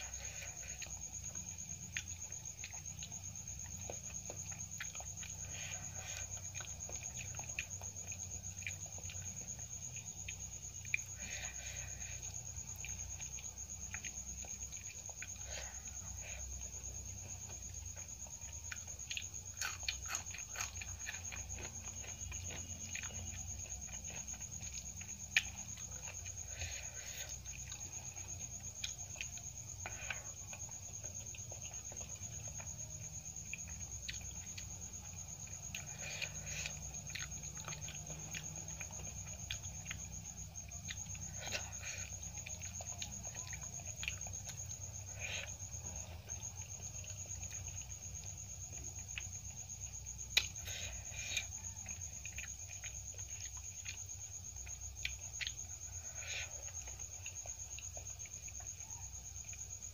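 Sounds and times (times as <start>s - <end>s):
chewing and mouth clicks: 0.0s - 59.9s.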